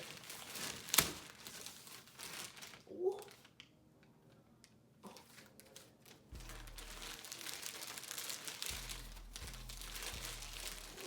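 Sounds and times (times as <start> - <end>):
packaging crinkling and rustling: 0.0 - 3.8, 5.0 - 11.0.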